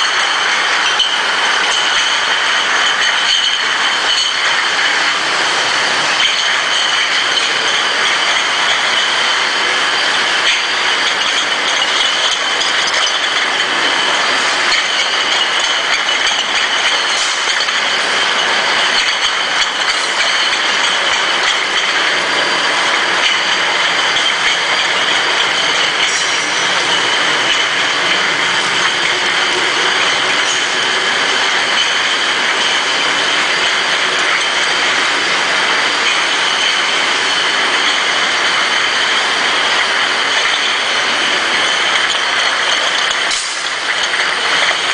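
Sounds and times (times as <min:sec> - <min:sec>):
glass bottles clinking: 0:00.0 - 0:44.9.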